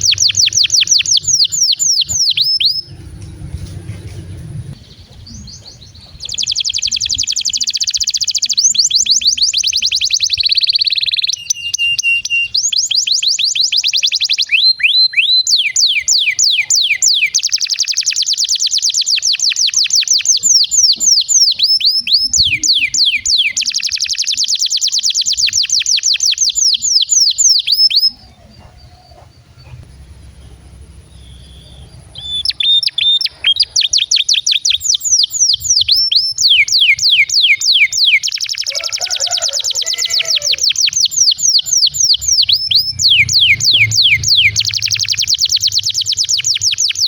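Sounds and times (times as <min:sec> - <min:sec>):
canary singing trills: 0:00.0 - 0:47.0.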